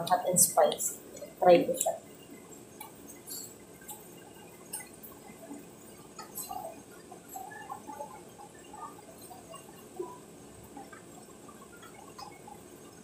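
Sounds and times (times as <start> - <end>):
water bubbling in a pot: 0.0 - 13.0.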